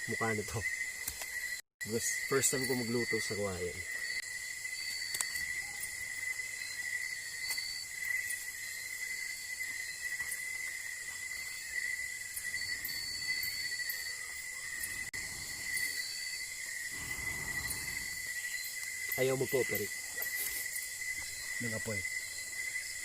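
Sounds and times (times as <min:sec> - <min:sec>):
crickets trilling: 0:00.0 - 0:23.0
higher insect buzz: 0:02.2 - 0:23.0.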